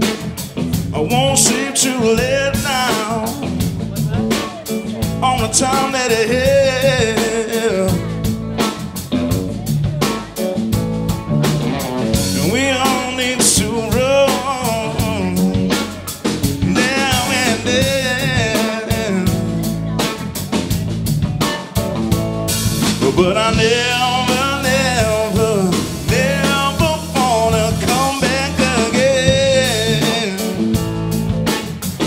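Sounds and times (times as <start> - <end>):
drum kit beat: 0.0 - 32.0
electric bass: 0.0 - 32.0
electric guitar: 0.0 - 32.0.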